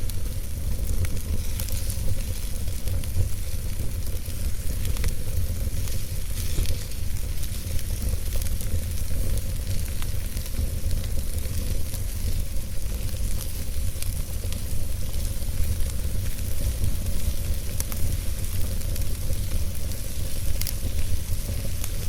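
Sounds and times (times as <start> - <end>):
logs burning in fireplace: 0.0 - 22.0.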